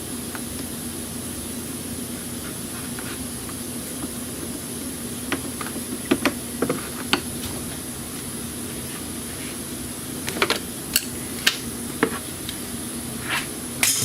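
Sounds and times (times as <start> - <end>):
hum and hiss of shop machinery: 0.0 - 14.0.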